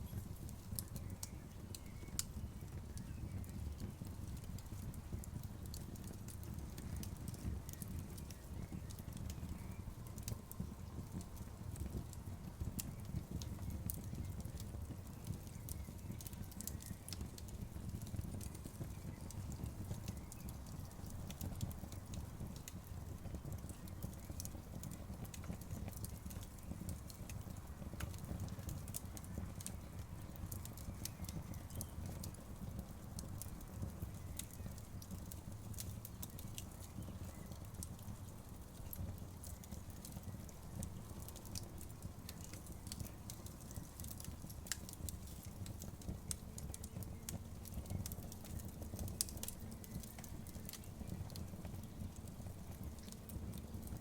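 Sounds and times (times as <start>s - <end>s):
bonfire crackling and popping: 0.0s - 54.0s
low rumble of burning fire: 0.0s - 54.0s.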